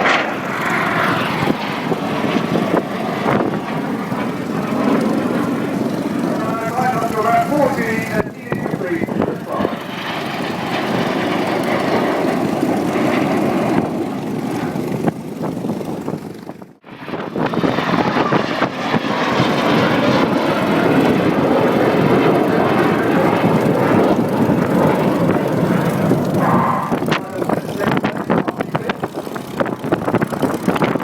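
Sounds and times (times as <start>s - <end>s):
jets roaring past: 0.0s - 31.0s.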